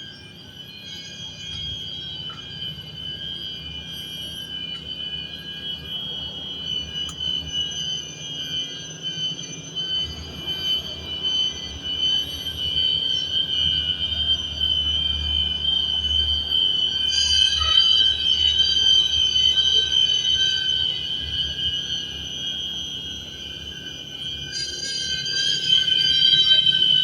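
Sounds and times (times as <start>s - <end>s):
shrill insect chorus: 0.0s - 27.0s.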